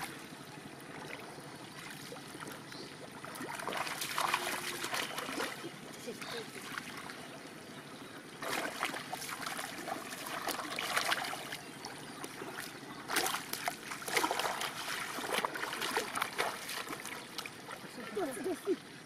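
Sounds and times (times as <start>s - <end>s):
muddy water sloshing and splashing: 0.0s - 19.0s.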